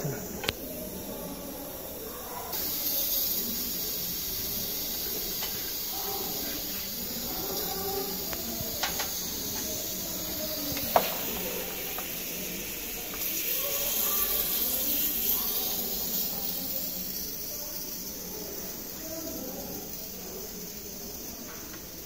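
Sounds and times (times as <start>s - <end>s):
refrigerant gas hissing: 0.0s - 22.0s.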